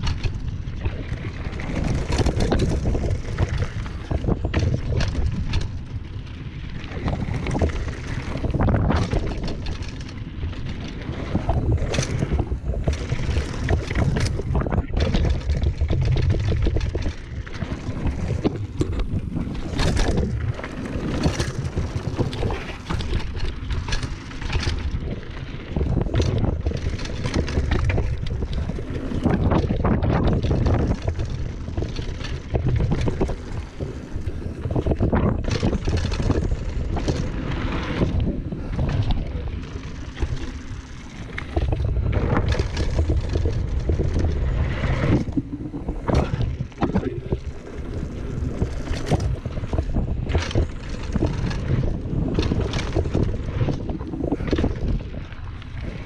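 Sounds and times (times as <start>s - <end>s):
bike knocks and rattles: 0.0s - 56.0s
bike tyres rolling over gravel: 0.0s - 56.0s
wind on microphone: 0.0s - 56.0s.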